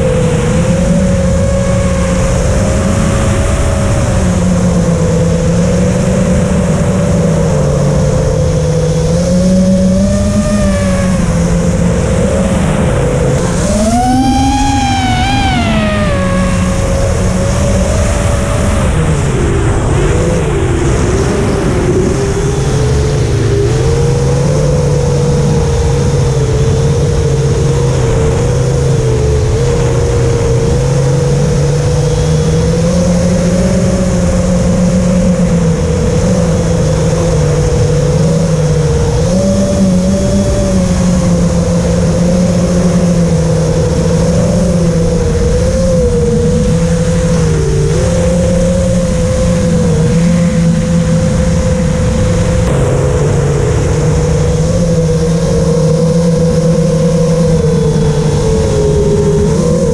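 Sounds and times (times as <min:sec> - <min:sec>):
electric motor and propeller hum: 0:00.0 - 0:59.9
wind rushing on microphone: 0:00.0 - 0:59.9.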